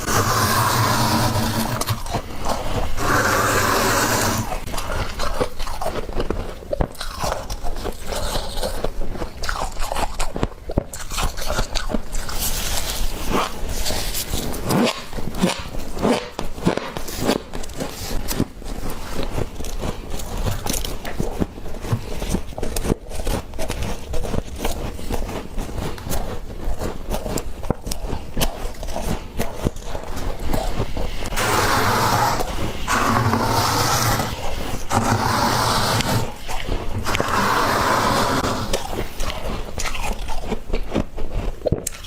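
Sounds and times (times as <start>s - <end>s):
frost being scraped and crunched: 0.0s - 40.6s.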